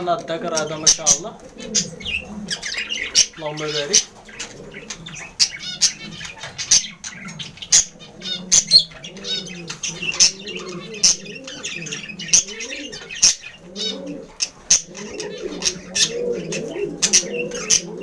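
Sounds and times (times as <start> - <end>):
budgerigars chattering: 0.0 - 18.0
wing flapping: 0.0 - 18.0.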